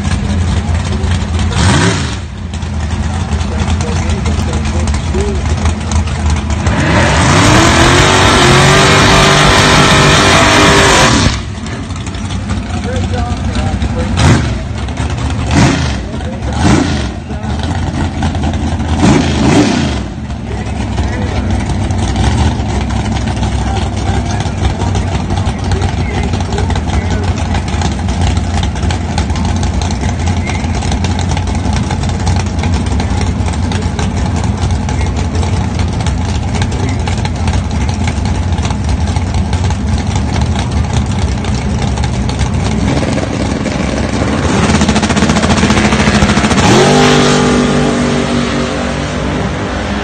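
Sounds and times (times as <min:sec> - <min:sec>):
drag car engine idling: 0:00.0 - 0:48.2
car accelerating: 0:00.0 - 0:50.0.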